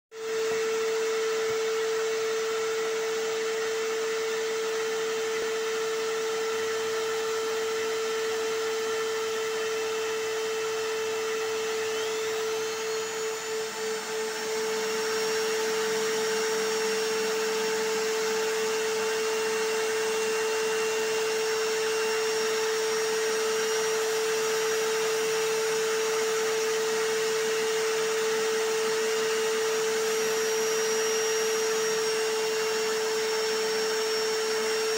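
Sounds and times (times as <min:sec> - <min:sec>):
hammer drill: 0:00.1 - 0:34.9
vacuum cleaner running: 0:00.1 - 0:34.9.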